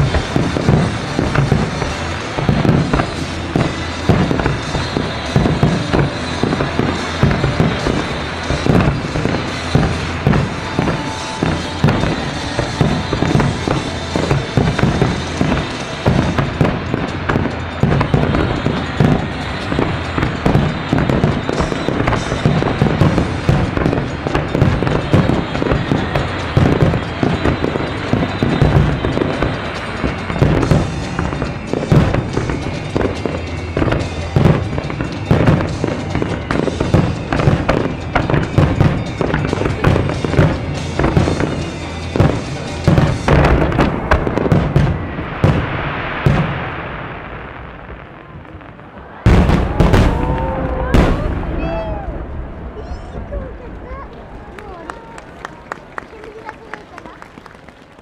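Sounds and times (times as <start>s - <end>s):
fireworks booming and banging: 0.0s - 58.0s.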